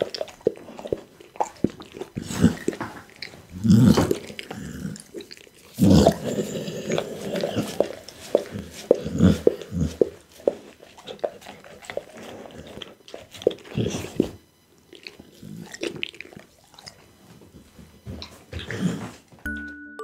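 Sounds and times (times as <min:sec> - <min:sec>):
dog licking and chewing meat: 0:00.0 - 0:19.4.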